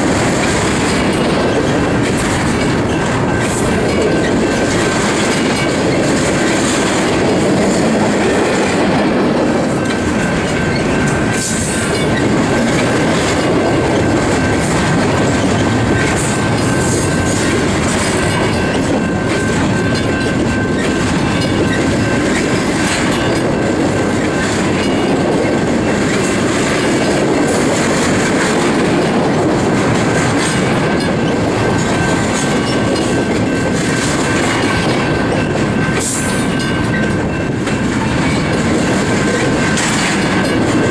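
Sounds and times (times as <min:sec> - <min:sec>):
freight train rolling past: 0:00.0 - 0:40.9
wheels clicking over rail joints: 0:00.0 - 0:40.9.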